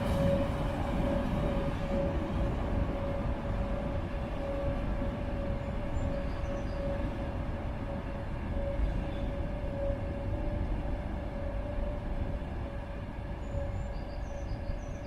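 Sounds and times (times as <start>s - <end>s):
electric trains rumbling: 0.0s - 15.0s.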